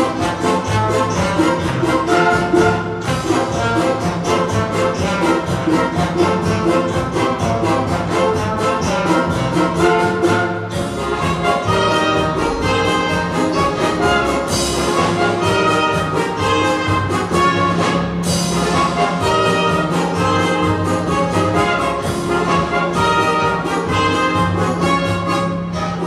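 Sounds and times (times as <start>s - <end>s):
orchestra playing a dance tune: 0.0s - 26.0s.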